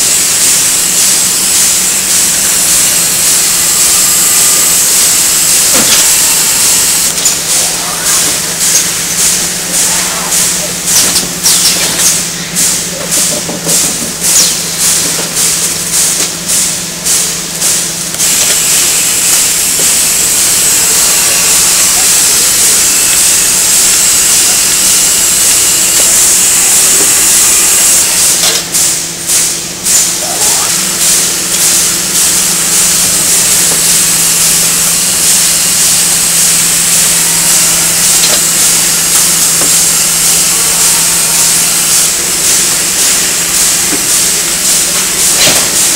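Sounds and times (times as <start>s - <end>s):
machinery hissing: 0.0s - 45.9s
rapid rhythmic machine pulsing: 0.0s - 45.9s.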